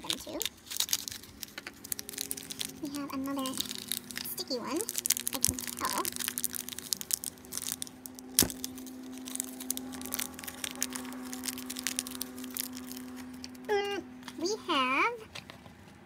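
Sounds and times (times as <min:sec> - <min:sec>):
crinkly wrapper tearing: 0:00.0 - 0:14.4.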